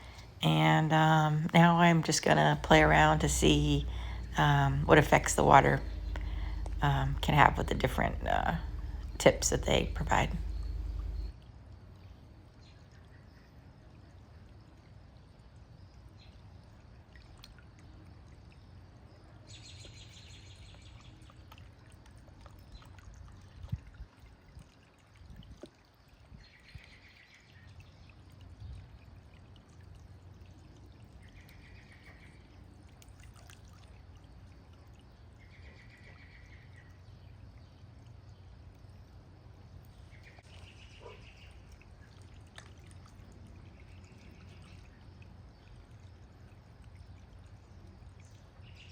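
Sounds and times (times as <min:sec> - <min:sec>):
fountain water splashing and trickling: 0:00.0 - 0:48.9.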